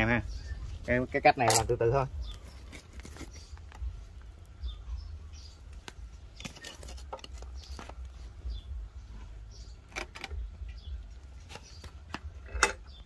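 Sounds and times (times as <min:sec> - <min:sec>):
faint bird chirps: 0:00.0 - 0:03.8, 0:04.5 - 0:13.0.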